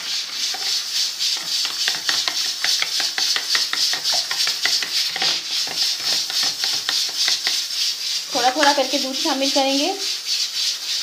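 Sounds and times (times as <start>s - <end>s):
whisk clicking and scraping bowl: 0.0s - 11.0s.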